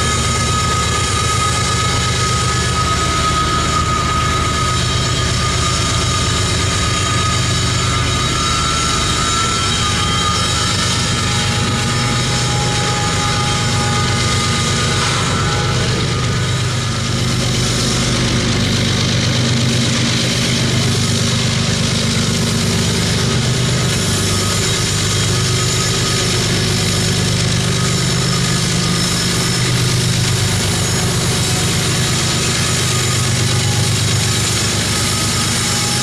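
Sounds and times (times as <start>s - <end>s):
diesel locomotive engine drone: 0.0s - 36.0s.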